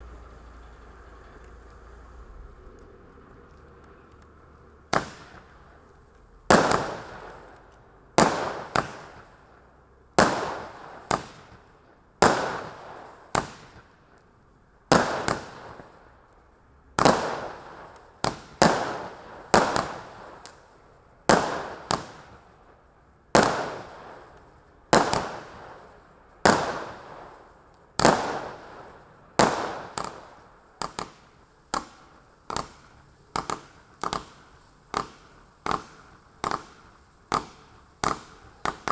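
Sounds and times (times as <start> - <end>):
firework bangs with hiss: 0.0 - 38.9.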